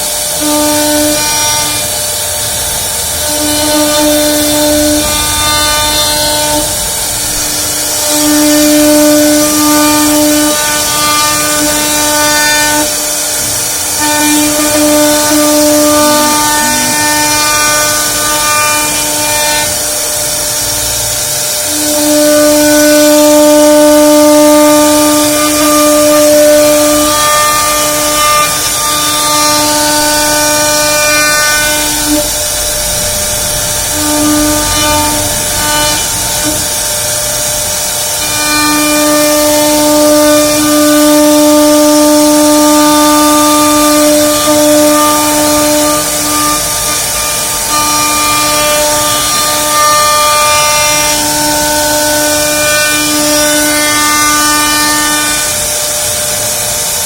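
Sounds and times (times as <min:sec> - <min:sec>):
machine motors whining: 0:00.0 - 0:57.0.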